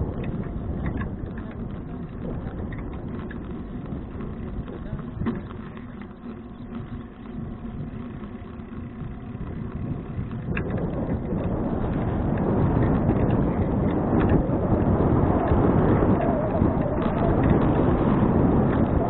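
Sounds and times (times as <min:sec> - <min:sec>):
bicycle road noise: 0:00.0 - 0:19.0
wind noise: 0:00.0 - 0:19.0.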